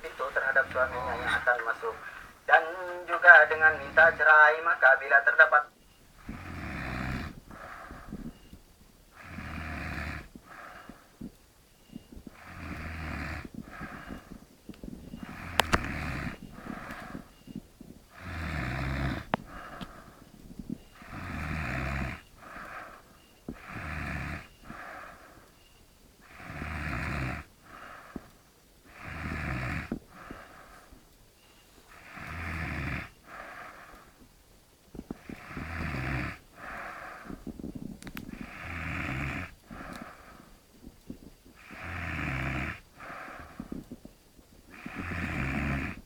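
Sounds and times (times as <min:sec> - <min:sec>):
man snoring heavily: 0:00.0 - 0:04.4, 0:06.2 - 0:08.4, 0:09.1 - 0:11.3, 0:12.2 - 0:17.4, 0:18.1 - 0:25.5, 0:26.2 - 0:31.0, 0:31.9 - 0:34.2, 0:35.1 - 0:40.6, 0:41.6 - 0:43.9, 0:44.7 - 0:46.0
soft breath: 0:05.8 - 0:41.9, 0:42.7 - 0:45.2.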